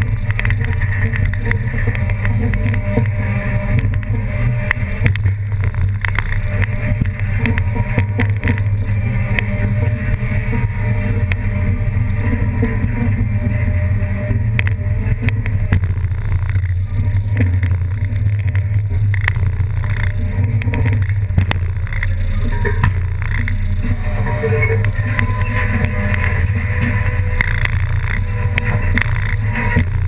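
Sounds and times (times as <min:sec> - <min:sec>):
low motor rumble: 0:00.0 - 0:30.0.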